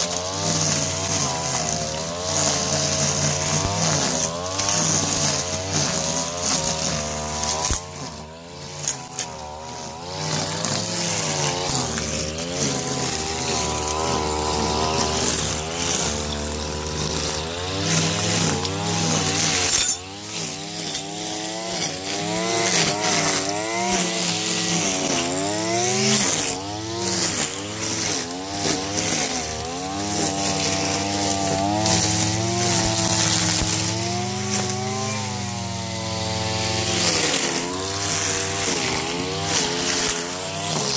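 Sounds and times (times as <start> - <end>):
brush cutter cutting grass: 0.0 - 40.9.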